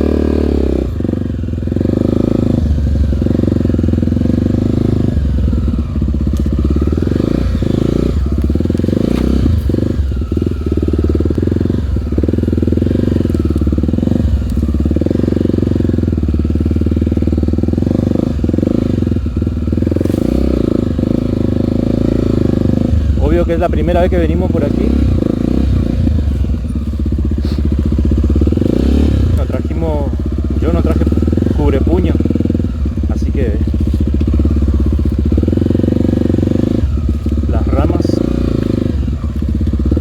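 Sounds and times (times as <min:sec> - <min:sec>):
motorcycle engine under load: 0:00.0 - 0:40.0.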